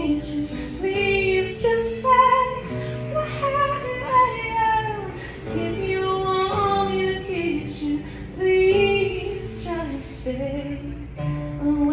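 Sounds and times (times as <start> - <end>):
acoustic guitar: 0.0 - 11.9
woman singing: 0.0 - 11.9.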